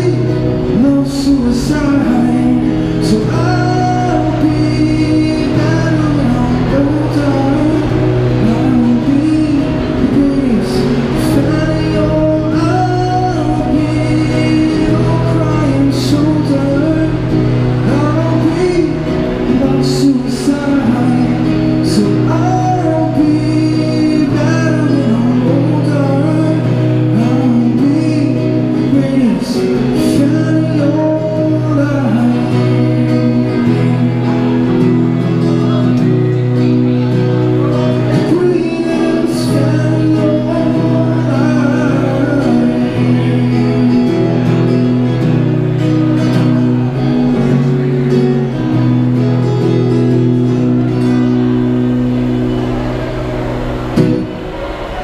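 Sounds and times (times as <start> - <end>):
man singing: 0.0 - 52.0
strummed acoustic guitar: 0.0 - 55.0.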